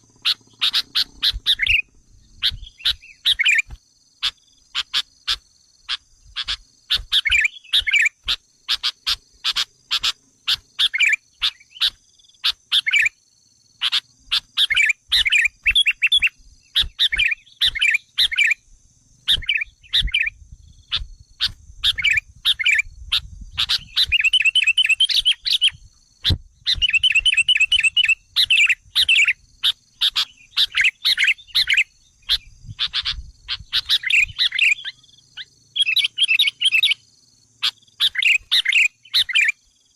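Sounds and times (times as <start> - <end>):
bulbuls chirping and clicking: 0.0 - 13.0, 13.8 - 18.6, 19.3 - 20.3, 23.6 - 35.0, 37.6 - 39.5.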